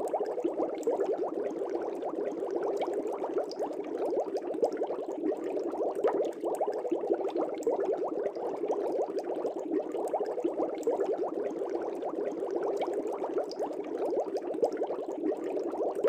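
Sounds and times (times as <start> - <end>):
aquarium water bubbling: 0.0 - 16.0.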